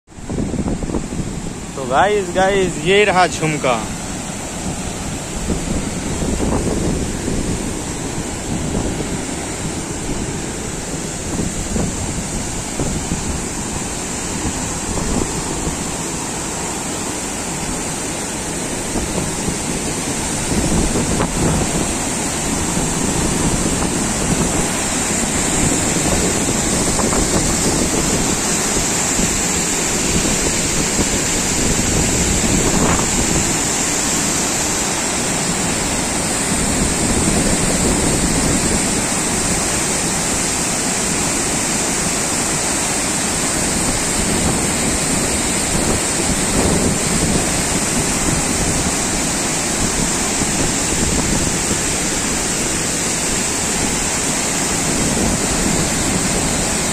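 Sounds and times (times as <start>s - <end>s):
water crashing down waterfall: 0.1s - 56.9s.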